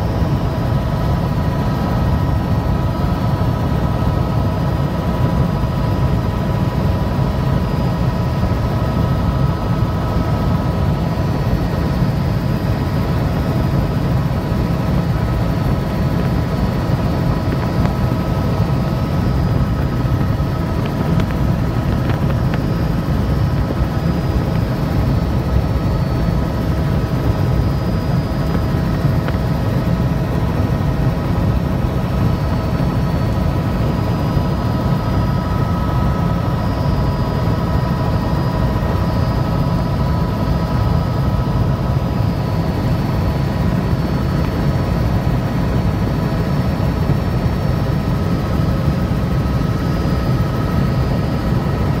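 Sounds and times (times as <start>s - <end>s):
helicopter rotor and engine drone: 0.0s - 52.0s
steady whining tones: 0.0s - 52.0s.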